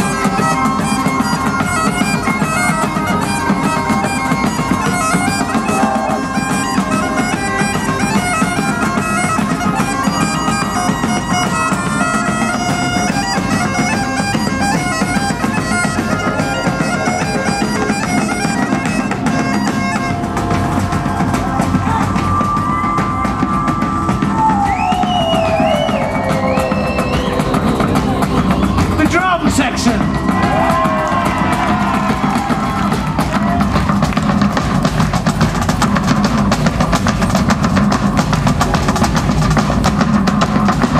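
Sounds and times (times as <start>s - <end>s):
bagpipes playing: 0.0s - 40.9s
pounding drums: 0.0s - 40.9s.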